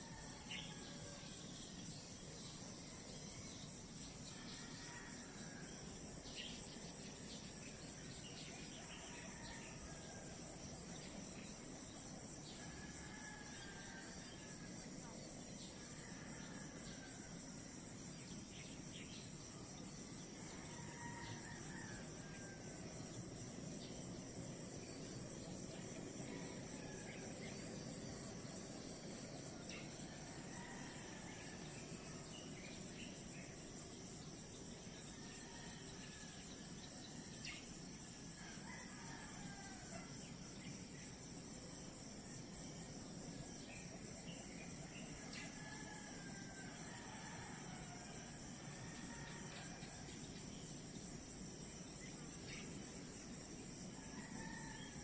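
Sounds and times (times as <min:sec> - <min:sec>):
crickets and insects trilling: 0:00.0 - 0:55.0.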